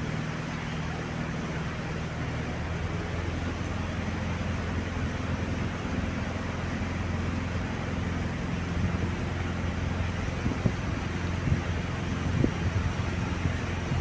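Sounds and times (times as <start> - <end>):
boat engine droning: 0.0 - 14.0
water and air rushing: 0.0 - 14.0.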